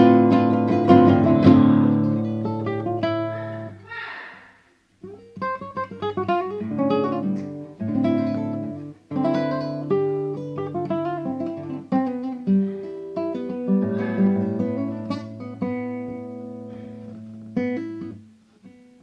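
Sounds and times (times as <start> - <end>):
acoustic guitar: 0.0 - 4.0, 4.9 - 19.0.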